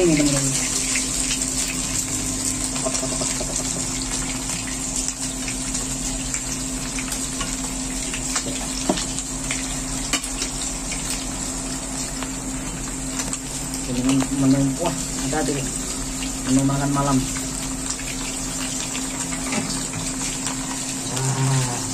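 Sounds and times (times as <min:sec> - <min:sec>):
oil sizzling around frying fish: 0:00.0 - 0:21.9.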